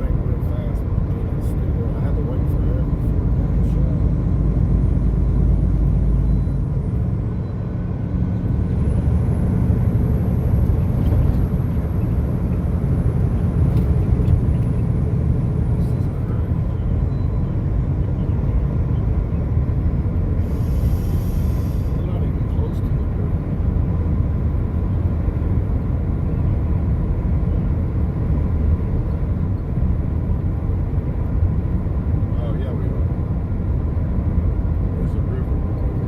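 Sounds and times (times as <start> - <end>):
vehicle road and engine rumble: 0.0 - 36.0.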